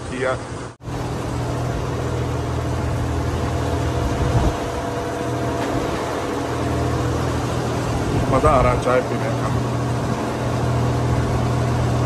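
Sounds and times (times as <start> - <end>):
motor idling hum: 0.5 - 12.0.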